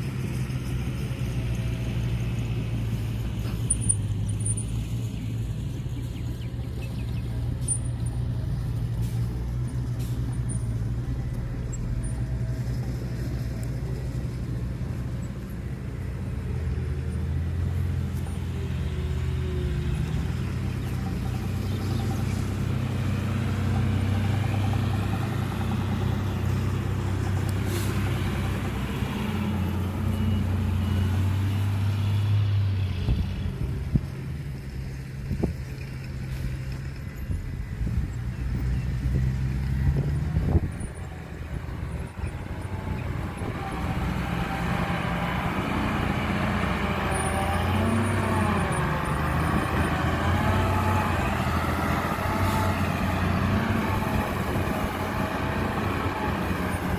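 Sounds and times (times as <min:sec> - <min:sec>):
diesel machinery engine drone: 0:00.0 - 0:56.9.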